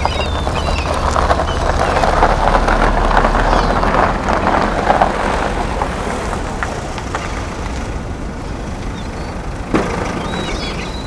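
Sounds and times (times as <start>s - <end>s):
tyres on dirt: 0.0s - 11.0s
van engine rumble: 0.0s - 11.0s.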